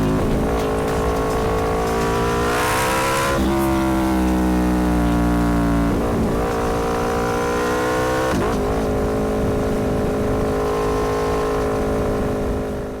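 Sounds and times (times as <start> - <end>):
motorcycle engine changing gears: 0.0 - 12.4.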